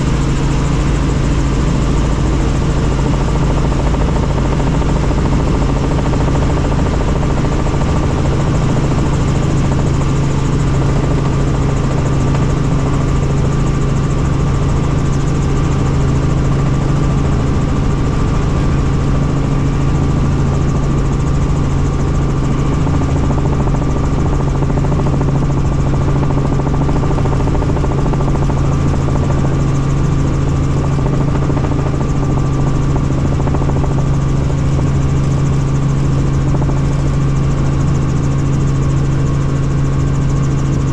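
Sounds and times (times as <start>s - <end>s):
helicopter droning: 0.0s - 40.9s.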